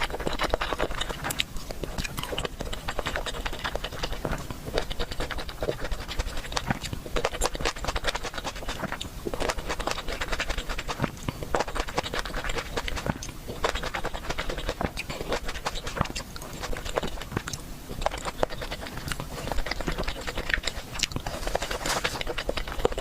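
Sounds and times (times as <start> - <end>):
chewing and mouth noises: 0.0 - 23.0.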